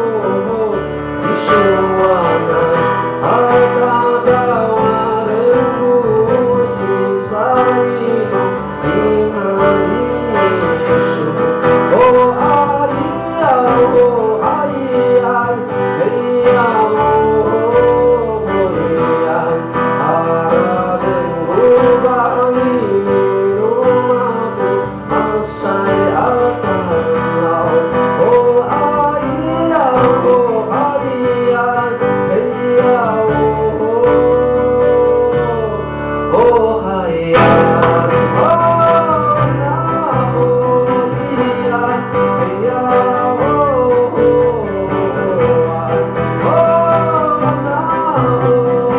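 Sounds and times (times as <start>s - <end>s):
guitar chords: 0.0s - 48.9s
man singing: 0.0s - 48.9s.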